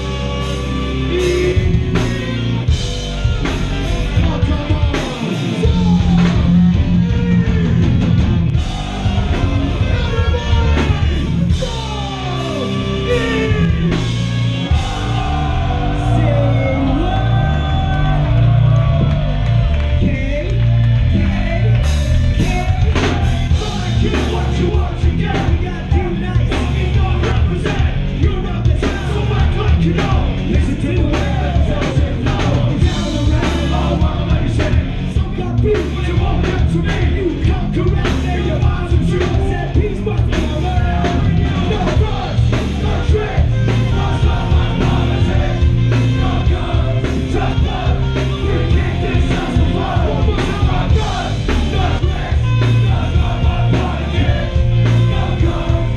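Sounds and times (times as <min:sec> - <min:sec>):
bass guitar: 0:00.0 - 0:55.9
drums: 0:00.0 - 0:55.9
electric guitars: 0:00.0 - 0:55.9
yelled vocals: 0:00.0 - 0:55.9.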